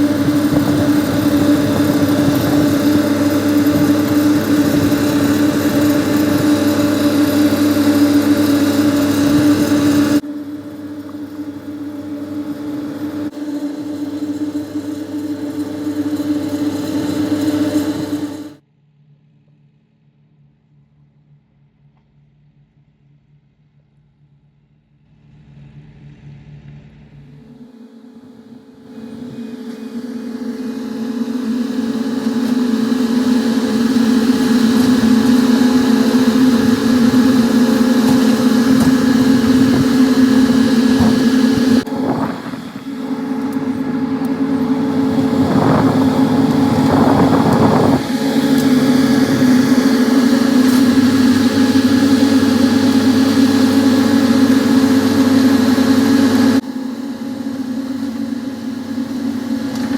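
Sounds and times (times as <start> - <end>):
heavy machine engine droning: 0.0 - 59.9.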